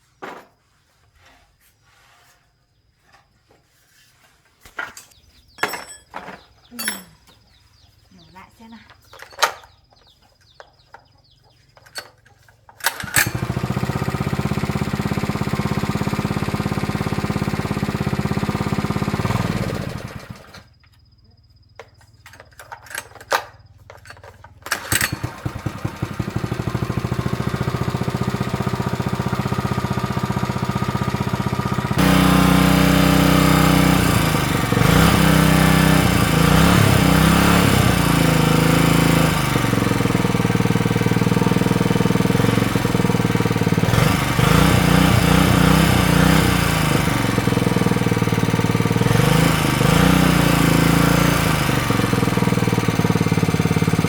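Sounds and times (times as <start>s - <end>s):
small petrol engine running: 9.1s - 20.8s, 22.2s - 54.0s.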